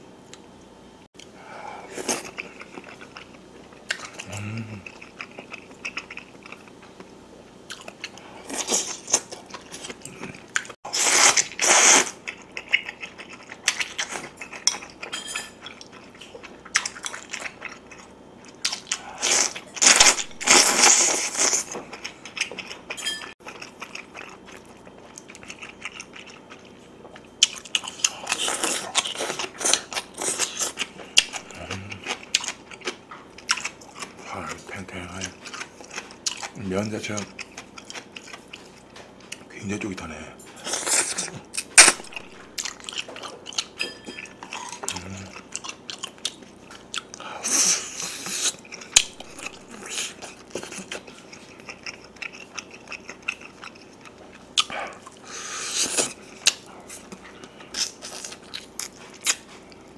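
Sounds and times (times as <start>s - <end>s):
chewing and mouth smacking: 2.0s - 10.8s, 11.4s - 39.5s, 40.6s - 59.9s.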